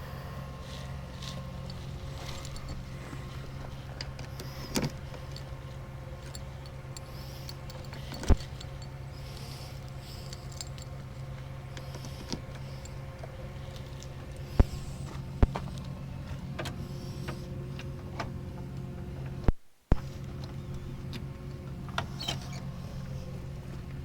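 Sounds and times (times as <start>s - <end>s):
truck engine droning: 0.0s - 24.0s.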